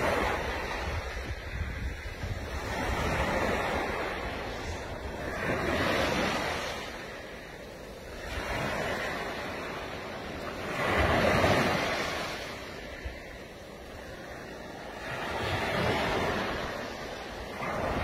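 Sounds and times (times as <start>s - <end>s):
small waves washing on sand: 0.0s - 18.0s
wind buffeting microphone: 0.0s - 18.0s.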